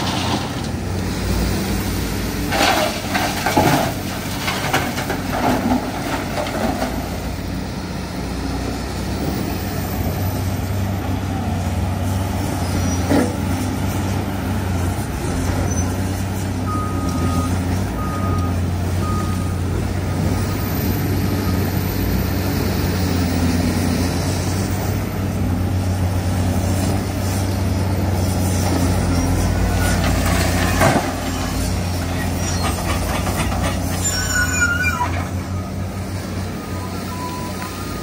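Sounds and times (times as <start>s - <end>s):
heavy diesel machines running: 0.0s - 38.0s.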